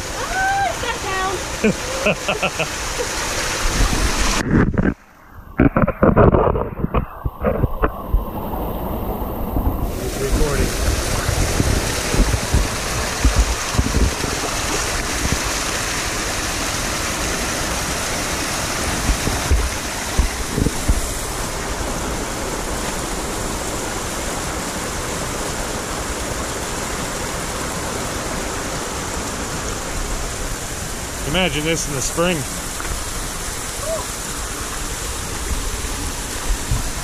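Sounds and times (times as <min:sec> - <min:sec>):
river water rushing: 0:00.0 - 0:37.0.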